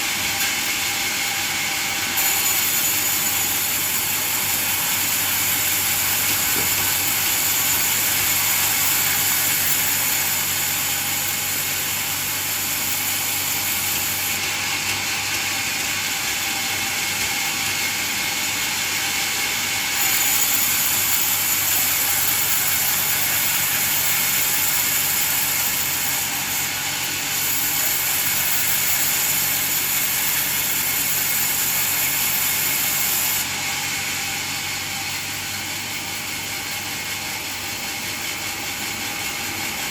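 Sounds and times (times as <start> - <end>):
band sawmill sawing wood: 0.0 - 39.9.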